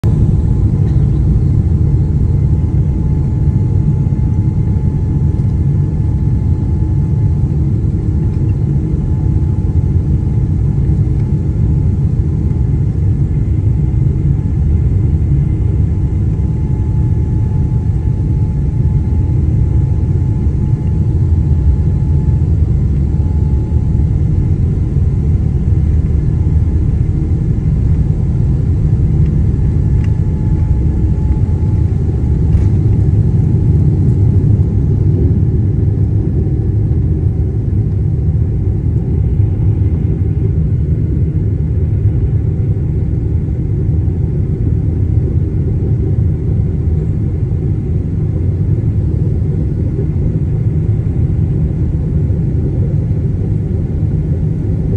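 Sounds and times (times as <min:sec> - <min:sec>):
faint steady whine: 0:00.0 - 0:54.9
jet airliner rumble in cabin: 0:00.0 - 0:54.9.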